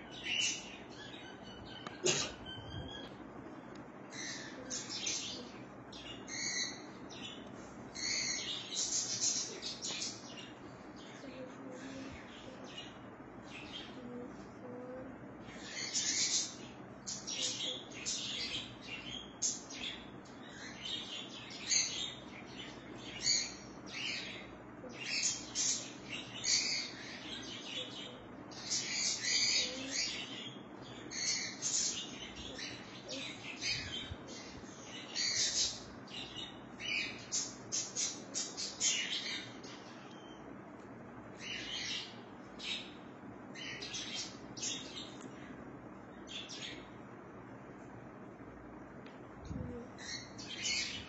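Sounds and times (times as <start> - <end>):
birds chirping: 0.0 - 48.9, 49.5 - 51.0.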